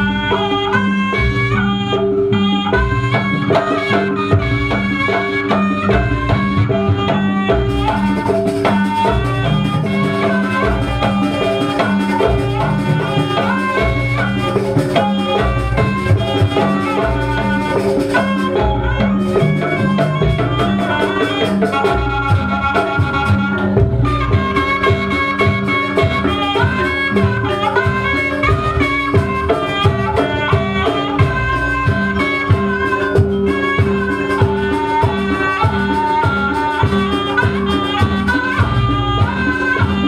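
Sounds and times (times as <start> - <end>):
drumming: 0.0 - 40.0
gamelan percussion: 0.0 - 40.0
reed trumpet melody: 0.0 - 40.0.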